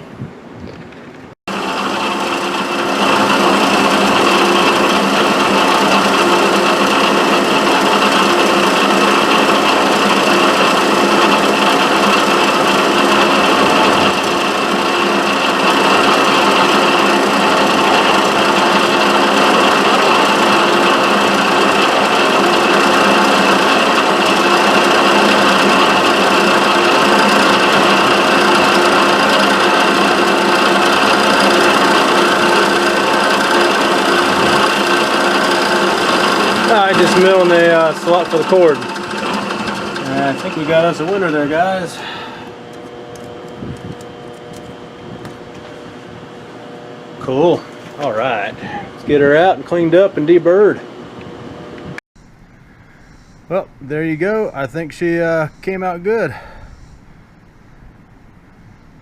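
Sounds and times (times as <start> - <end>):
milling machine cutting: 1.5 - 52.0.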